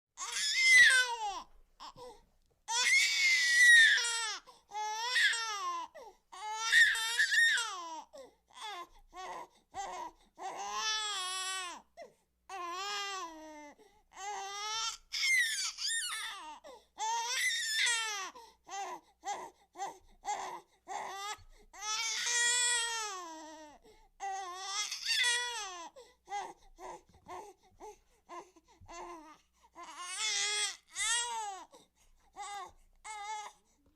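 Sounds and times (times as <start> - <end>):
baby crying: 0.2 - 2.1, 2.7 - 11.9, 12.5 - 31.7, 32.4 - 33.6.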